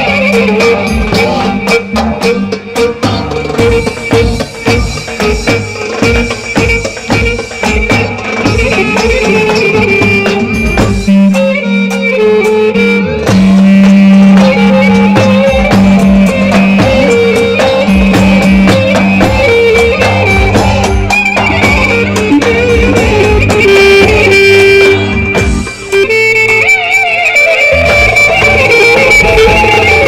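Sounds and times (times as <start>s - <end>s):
bass drum beat: 0.0s - 11.5s, 13.2s - 26.2s, 27.7s - 30.0s
backing band: 0.0s - 30.0s
clarinet melody: 0.0s - 30.0s.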